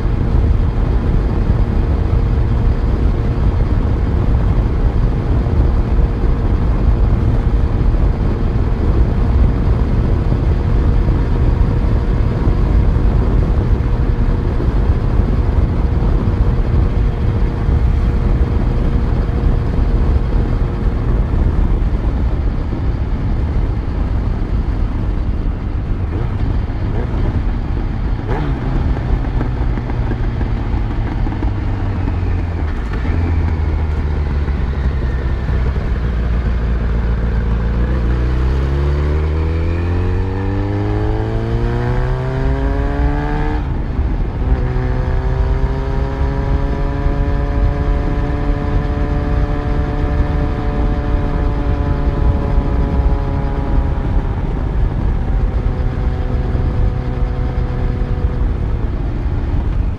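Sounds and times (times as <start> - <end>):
motorcycle engine running: 0.0 - 59.9
road and wind rumble: 0.0 - 59.9.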